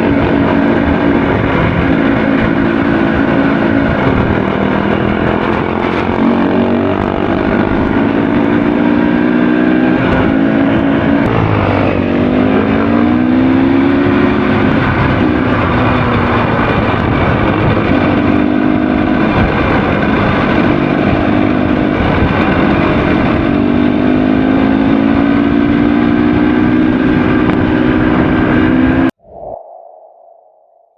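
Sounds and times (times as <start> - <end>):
motorcycle engine revving: 0.0 - 29.1.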